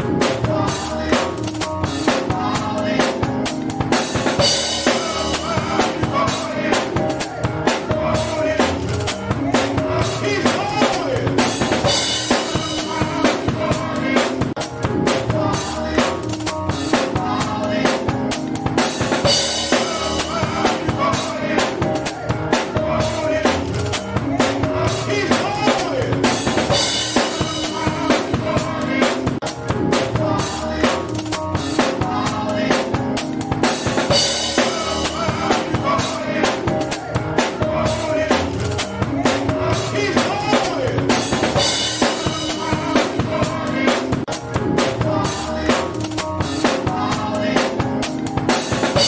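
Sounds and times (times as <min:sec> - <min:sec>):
drum kit beat: 0:00.0 - 0:49.0
gospel choir singing: 0:00.0 - 0:49.0
organ: 0:00.0 - 0:49.0.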